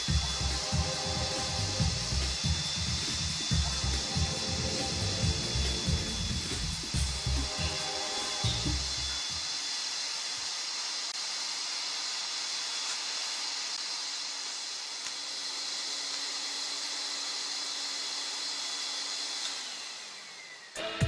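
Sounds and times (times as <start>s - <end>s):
industrial vacuum running: 0.0s - 21.0s.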